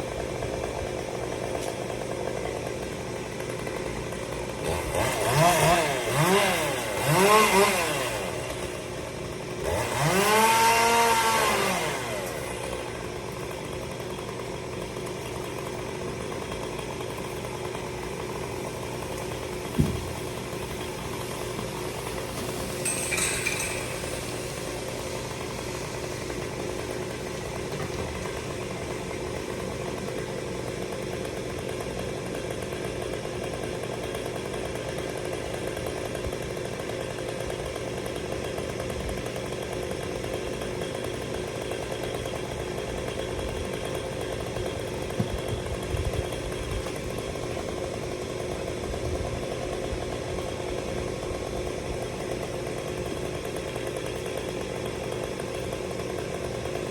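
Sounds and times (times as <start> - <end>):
chainsaw engine running: 0.0 - 56.9.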